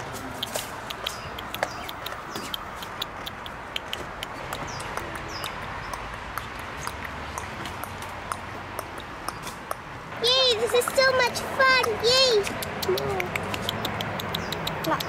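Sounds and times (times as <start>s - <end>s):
toy hooves tapping on ledge: 0.2s - 15.0s
bird chirping: 0.4s - 15.0s.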